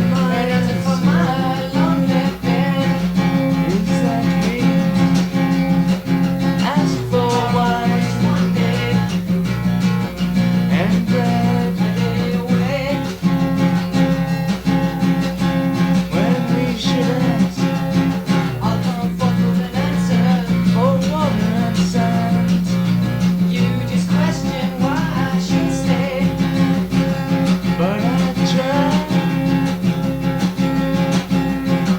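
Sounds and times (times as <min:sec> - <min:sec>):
acoustic guitar strummed and plucked: 0:00.0 - 0:31.9.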